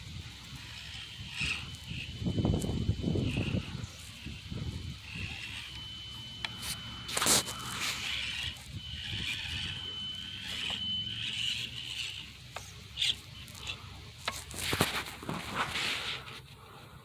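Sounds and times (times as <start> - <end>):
tyres and chassis striking rock: 0.0 - 16.6
small electric motor whining: 0.0 - 17.0.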